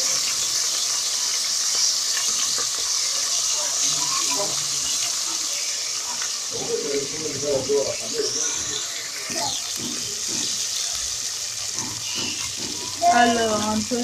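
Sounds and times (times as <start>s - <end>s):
oil crackling and popping: 0.0s - 14.0s
tomatoes sizzling in hot oil: 0.0s - 14.0s.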